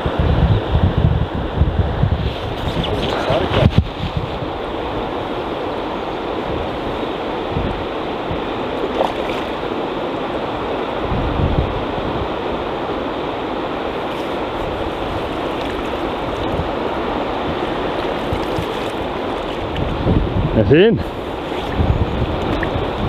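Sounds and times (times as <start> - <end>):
wind gusting on microphone: 0.0 - 23.0
fast-flowing river water: 2.5 - 23.0.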